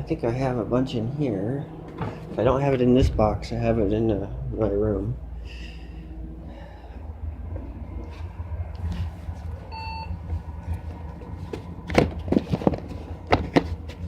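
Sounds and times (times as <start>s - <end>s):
computer humming: 0.0s - 14.0s.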